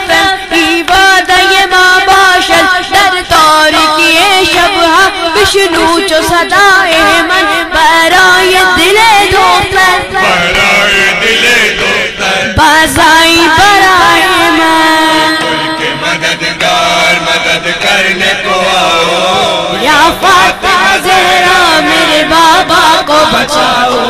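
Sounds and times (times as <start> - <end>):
voices chanting a lament: 0.0 - 24.0.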